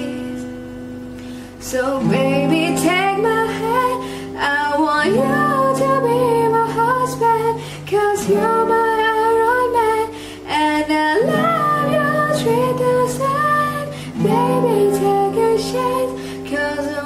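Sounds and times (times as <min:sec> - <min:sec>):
woman singing: 0:00.0 - 0:00.8, 0:01.5 - 0:17.0
strummed acoustic guitar: 0:00.0 - 0:17.0.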